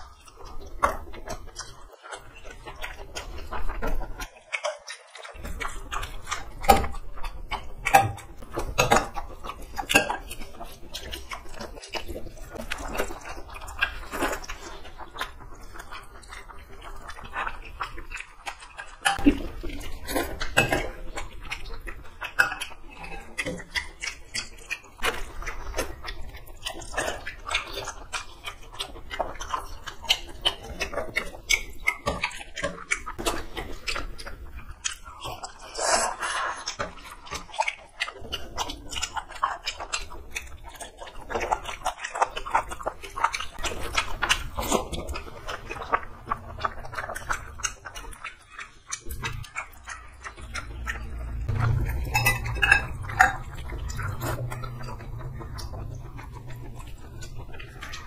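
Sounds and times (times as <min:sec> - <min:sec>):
chewing: 0:00.0 - 0:58.0.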